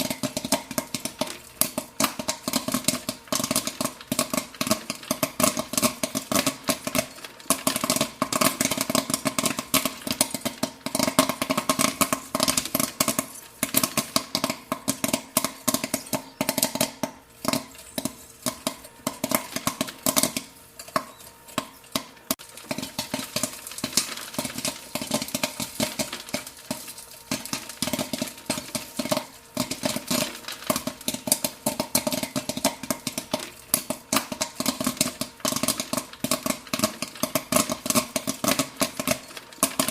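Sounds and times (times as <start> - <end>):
mechanical hum: 0.0 - 39.9
popcorn popping: 0.0 - 39.9.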